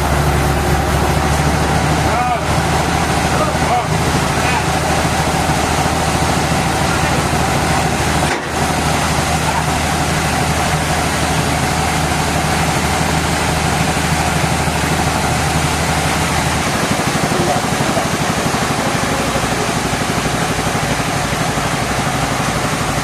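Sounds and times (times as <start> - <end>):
mid-pitched machine whine: 0.0 - 23.0
sawmill machinery drone: 0.0 - 23.0.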